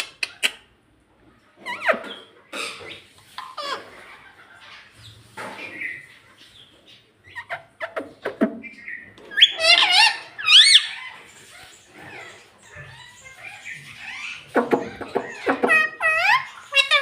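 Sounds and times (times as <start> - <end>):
parakeet chattering and squawking: 1.5 - 17.0.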